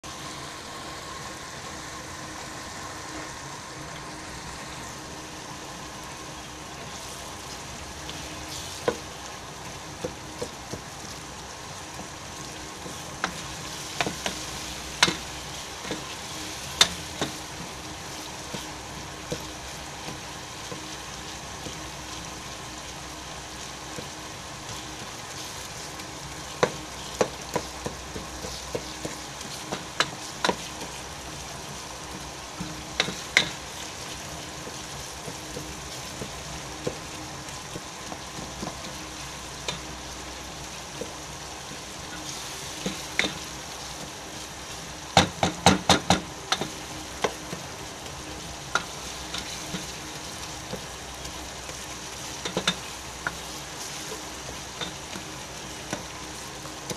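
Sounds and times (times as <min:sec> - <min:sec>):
vegetables sizzling in hot oil: 0:00.0 - 0:56.9.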